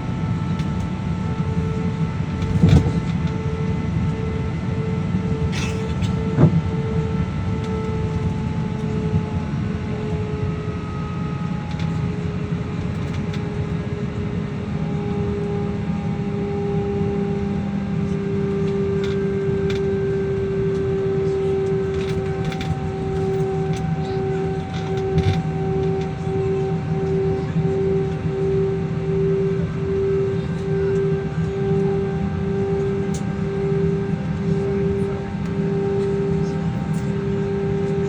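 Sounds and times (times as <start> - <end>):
higher engine whine: 0.0 - 38.0
jet engines rumbling and whining: 0.0 - 38.0.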